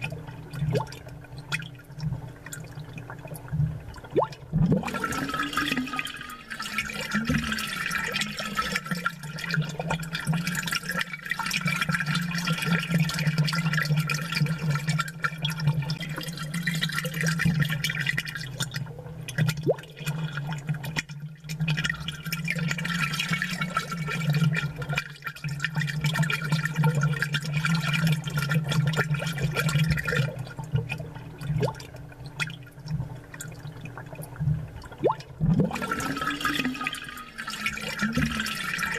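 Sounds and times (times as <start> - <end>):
aquarium water bubbling: 0.0 - 38.9.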